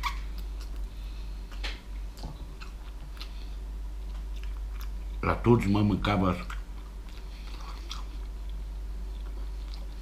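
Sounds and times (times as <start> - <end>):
man chewing food: 0.0 - 5.4, 6.4 - 10.0.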